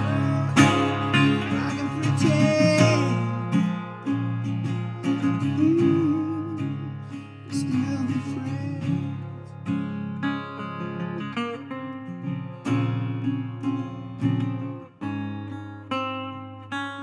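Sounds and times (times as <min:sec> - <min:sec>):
resonator guitar playing blues: 0:00.0 - 0:17.0.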